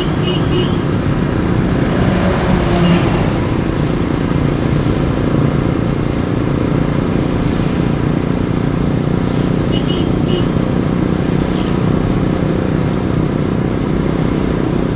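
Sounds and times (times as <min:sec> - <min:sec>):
car cabin engine and tyre noise: 0:00.0 - 0:14.9.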